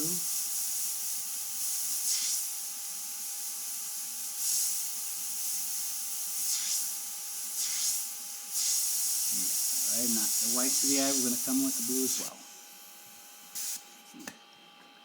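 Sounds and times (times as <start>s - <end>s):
airbrush hissing: 0.0s - 13.9s.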